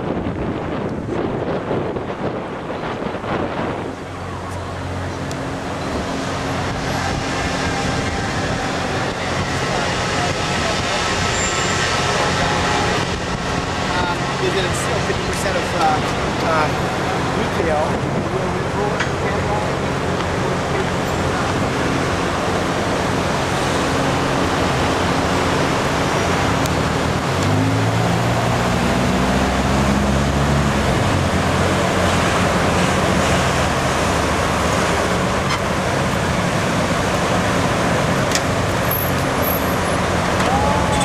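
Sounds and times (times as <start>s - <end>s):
passing cars: 0.0s - 41.0s
vehicle engine passing close: 0.0s - 41.0s.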